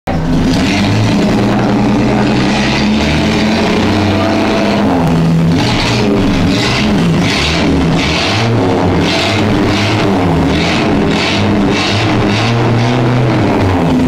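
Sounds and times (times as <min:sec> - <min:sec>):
car engine revving: 0:00.1 - 0:14.0.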